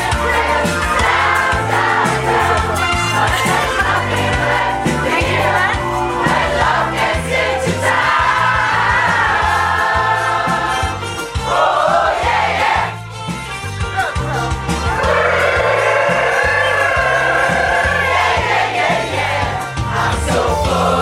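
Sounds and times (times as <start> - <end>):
choir singing pop song: 0.0 - 13.0, 15.0 - 21.0
bass and steady beat: 0.0 - 21.0.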